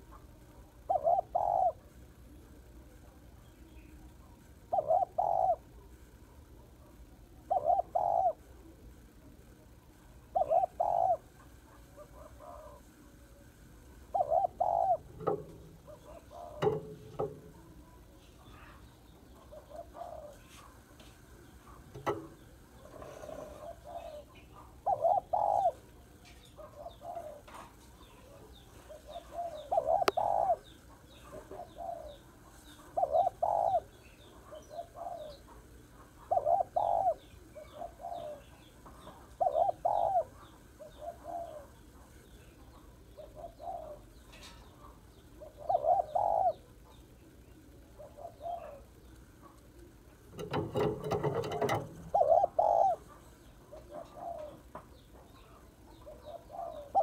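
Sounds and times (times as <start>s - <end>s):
dove cooing: 0.0s - 2.0s, 3.7s - 6.0s, 6.6s - 8.9s, 10.2s - 13.3s, 14.0s - 20.8s, 21.4s - 47.0s, 47.7s - 57.0s
small birds chirping faintly: 0.0s - 57.0s.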